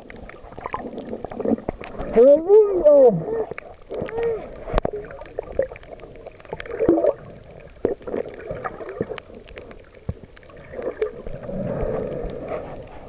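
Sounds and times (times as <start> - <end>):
underwater sloshing and bubbling: 0.0 - 13.0.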